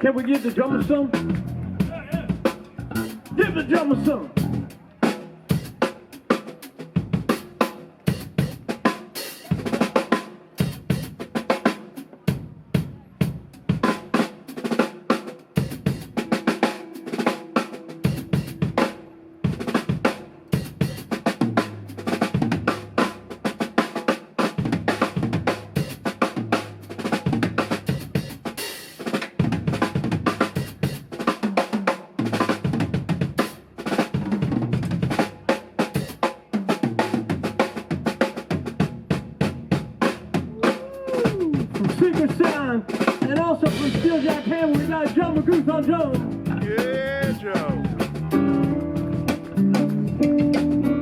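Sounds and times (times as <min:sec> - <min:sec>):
drum kit solo: 0:00.0 - 0:51.0.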